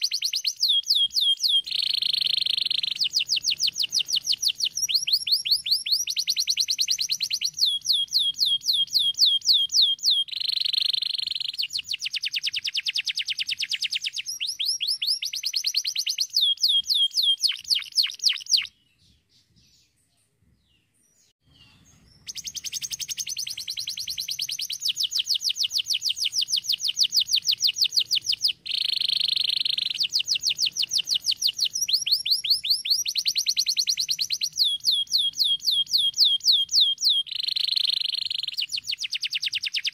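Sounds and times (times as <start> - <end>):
canary trilling: 0.0 - 18.7, 21.5 - 39.9.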